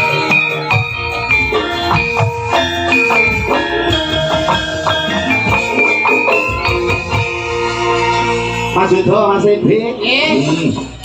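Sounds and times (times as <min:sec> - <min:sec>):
drum strokes: 0:00.0 - 0:08.8
bronze metallophones ringing: 0:00.0 - 0:11.0.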